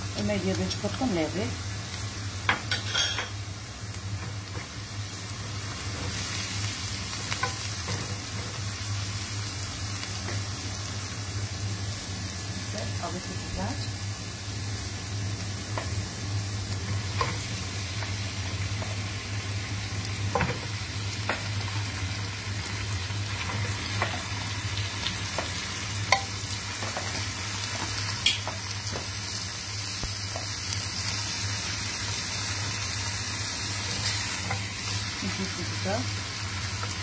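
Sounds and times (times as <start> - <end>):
onion sizzling in oil: 0.0 - 37.0.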